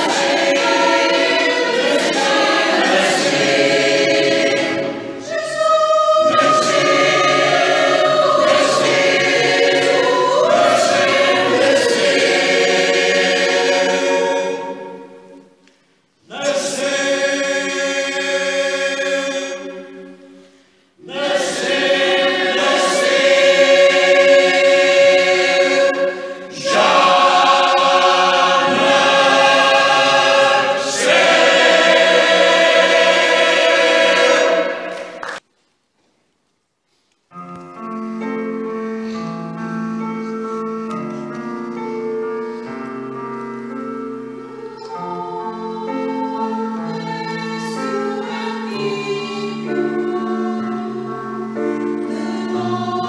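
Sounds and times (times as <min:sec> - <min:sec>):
mixed choir singing: 0:00.0 - 0:15.5, 0:16.3 - 0:20.3, 0:21.0 - 0:35.4, 0:44.4 - 0:53.0.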